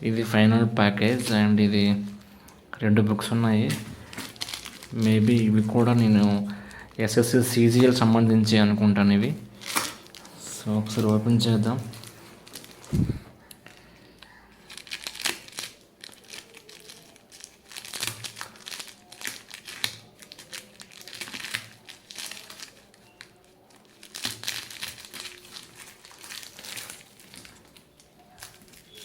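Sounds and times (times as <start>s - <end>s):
packaging crinkling and tearing: 3.5s - 8.2s, 9.6s - 29.0s.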